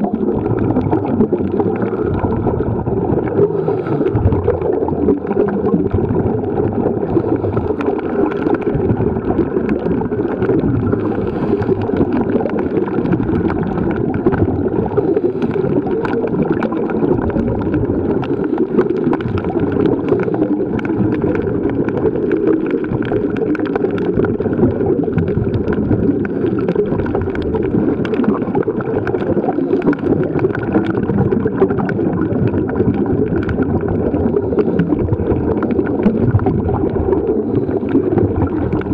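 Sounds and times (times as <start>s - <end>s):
muffled underwater water wash: 0.0s - 38.9s.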